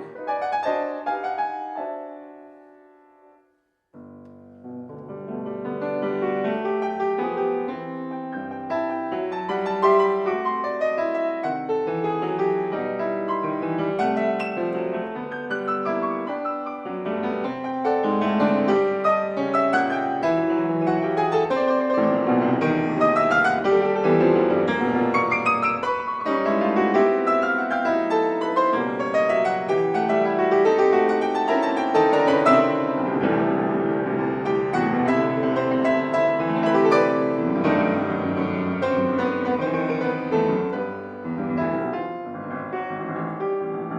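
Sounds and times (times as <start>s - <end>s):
solo piano piece: 0.0s - 43.9s.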